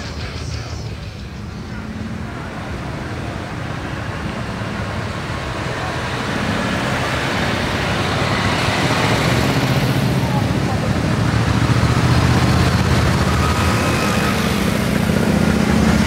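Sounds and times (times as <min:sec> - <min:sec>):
motorcycle engines: 0:00.0 - 0:16.0.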